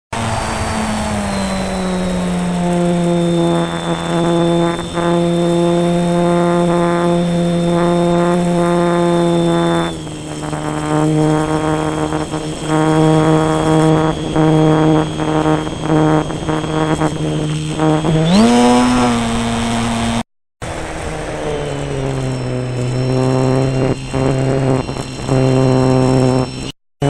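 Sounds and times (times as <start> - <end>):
electric motor and propeller drone: 0.1 - 26.8
thin high whine: 0.2 - 26.8.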